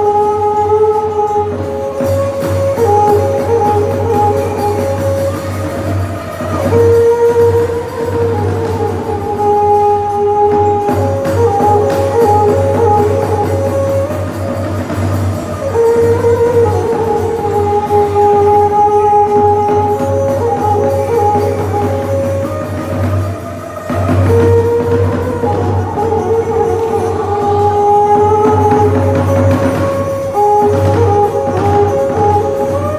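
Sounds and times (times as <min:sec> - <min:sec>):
ensemble melody of long held notes: 0:00.0 - 0:32.9.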